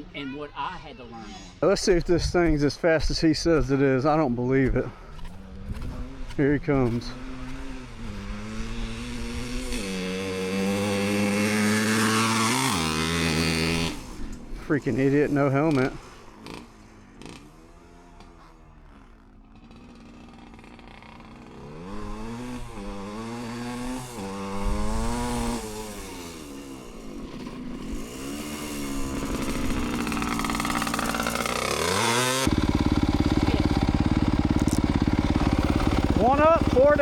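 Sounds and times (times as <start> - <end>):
two-stroke dirt bike revving: 1.6 - 37.0.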